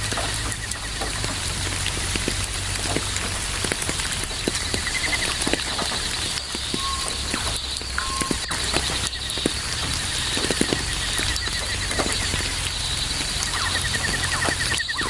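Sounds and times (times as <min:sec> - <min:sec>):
faint crickets chirping: 0:00.0 - 0:15.0
steady rain falling: 0:00.0 - 0:15.0.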